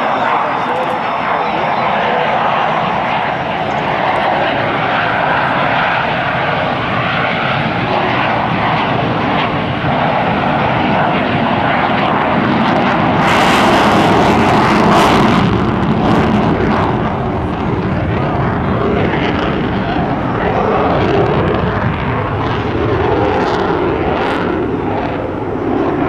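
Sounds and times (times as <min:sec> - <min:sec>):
jet roar: 0:00.0 - 0:26.0.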